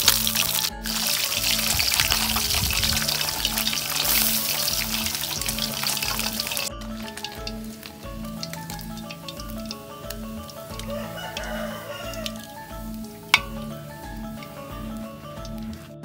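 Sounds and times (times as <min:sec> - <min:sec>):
fish sizzling and crackling in oil: 0:00.0 - 0:15.8.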